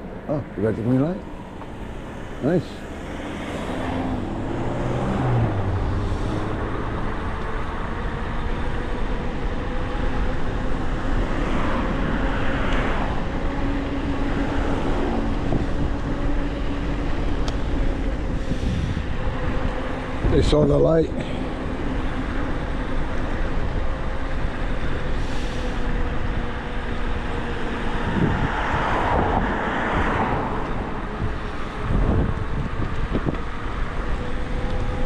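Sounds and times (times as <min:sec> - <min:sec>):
road traffic: 0:00.0 - 0:35.0
wind noise: 0:03.0 - 0:35.0.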